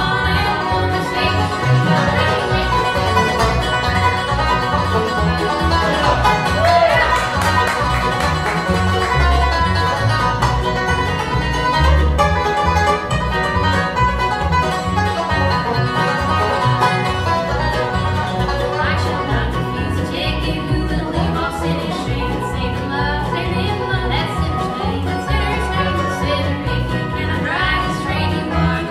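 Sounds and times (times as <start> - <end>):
acoustic guitar: 0.0 - 28.9
banjo picking: 0.0 - 28.9
mandolin: 0.0 - 28.9
upright bass: 0.0 - 28.9.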